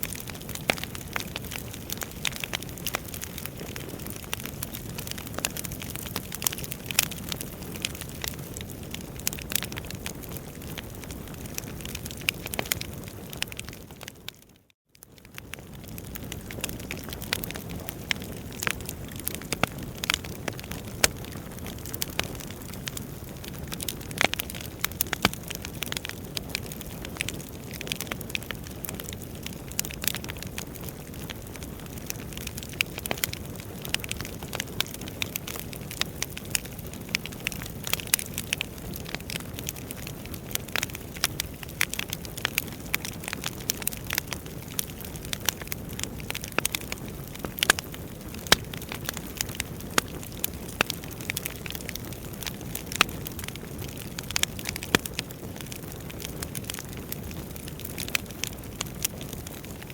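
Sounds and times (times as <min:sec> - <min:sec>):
fireplace fire crackling and popping: 0:00.0 - 0:59.9.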